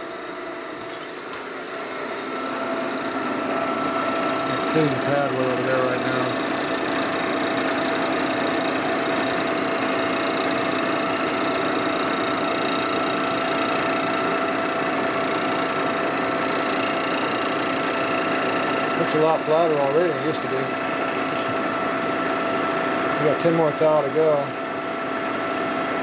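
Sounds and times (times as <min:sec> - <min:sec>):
milling machine whine: 0:00.0 - 0:26.0.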